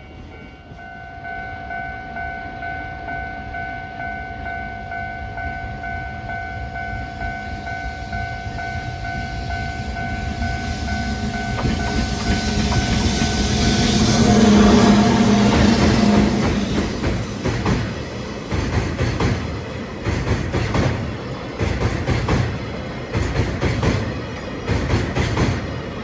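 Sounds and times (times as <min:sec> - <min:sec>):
freight train: 0:00.0 - 0:26.0.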